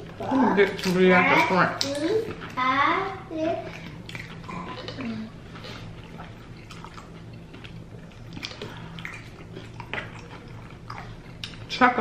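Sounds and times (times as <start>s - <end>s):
wet squishy food handling: 0.0s - 2.6s, 3.5s - 11.8s
low steady hum: 0.0s - 12.0s.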